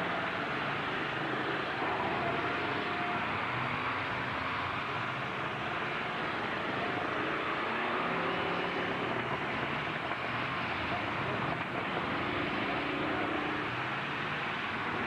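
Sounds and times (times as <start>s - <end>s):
truck engines running: 0.0s - 15.0s.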